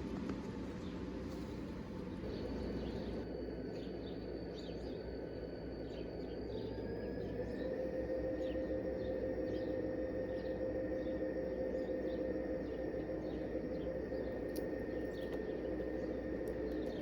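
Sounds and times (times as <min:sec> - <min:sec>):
high motor whine: 0:00.0 - 0:17.0.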